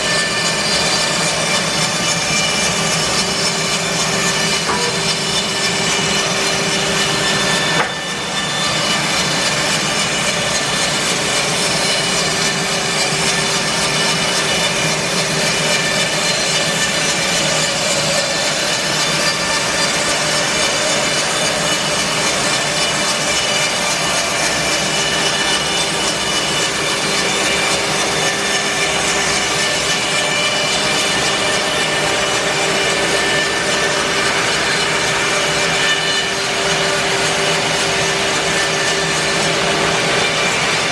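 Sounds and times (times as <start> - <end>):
bandsaw mill sawing log: 0.0 - 40.9.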